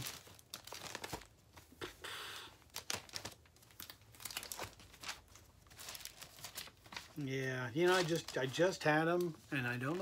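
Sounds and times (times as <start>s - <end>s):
record sleeves rustling: 0.0s - 1.9s, 2.5s - 10.0s.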